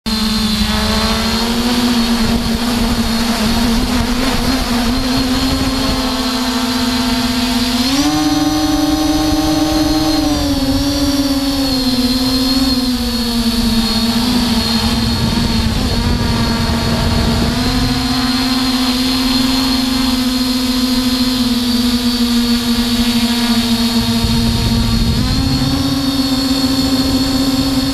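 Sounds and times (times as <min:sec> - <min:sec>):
drone propellers humming: 0:00.1 - 0:27.9.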